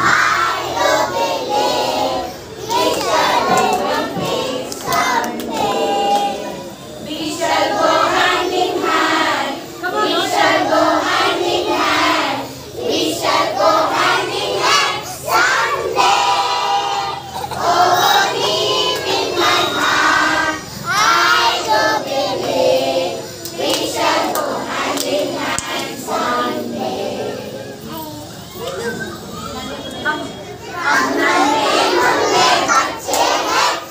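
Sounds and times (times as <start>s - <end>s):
children singing together: 0.0s - 27.9s, 30.7s - 33.9s.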